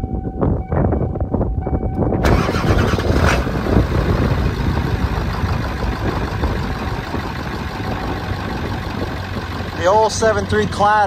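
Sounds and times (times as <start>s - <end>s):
diesel engine starting and idling: 2.1s - 11.0s.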